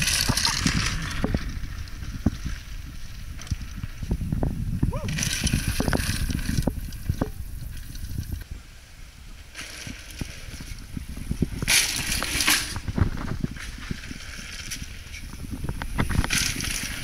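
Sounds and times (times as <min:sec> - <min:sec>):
bike tyres on loose dirt: 0:00.0 - 0:17.0
gravelly hiss: 0:00.0 - 0:17.0
wind rumble on microphone: 0:00.0 - 0:17.0.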